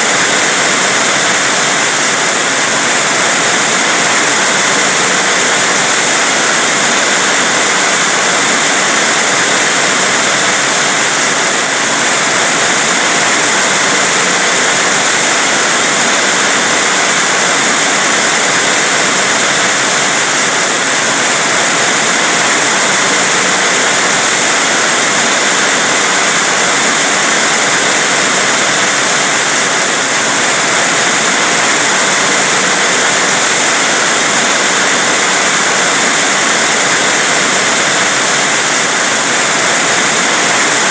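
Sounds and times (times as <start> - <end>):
heavy rain hiss: 0.0 - 40.9.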